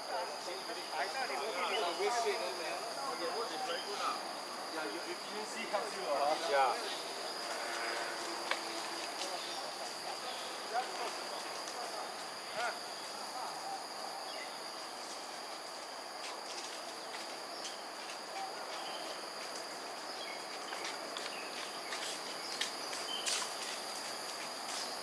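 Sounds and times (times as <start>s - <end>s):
background hiss: 0.0s - 25.0s
insects chirring: 0.0s - 25.0s.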